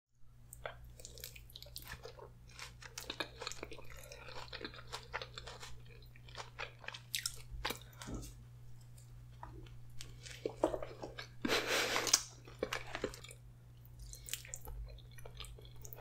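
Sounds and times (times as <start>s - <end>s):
steady low hum: 0.2s - 16.0s
person chewing spaghetti: 0.5s - 16.0s.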